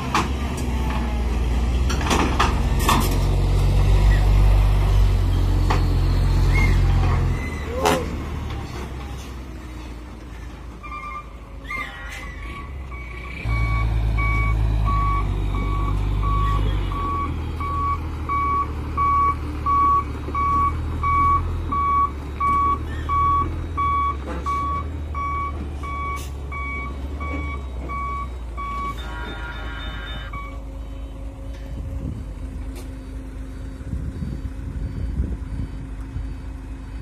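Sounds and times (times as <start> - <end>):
truck engine running: 0.0 - 37.0
truck reversing alarm beeping: 3.8 - 37.0.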